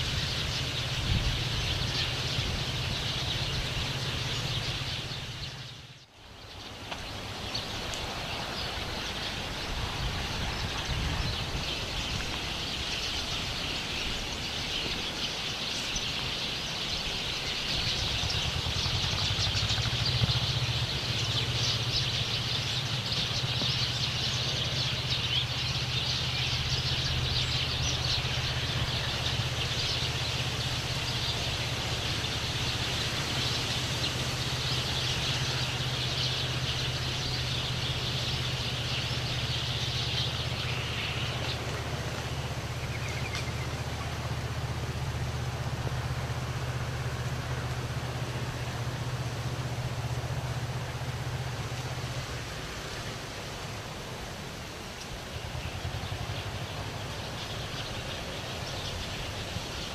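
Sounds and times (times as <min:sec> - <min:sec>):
songbirds chirping: 0:00.0 - 0:59.9
vehicle hum from road: 0:00.0 - 0:59.9.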